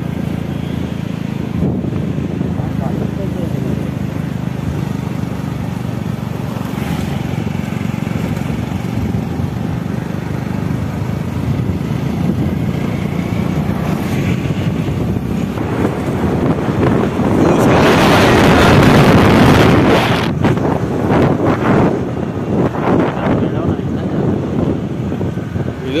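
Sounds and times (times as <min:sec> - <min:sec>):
motorcycle engine running: 0:00.0 - 0:26.0
road noise: 0:00.0 - 0:26.0
wind rushing over microphone: 0:00.0 - 0:26.0.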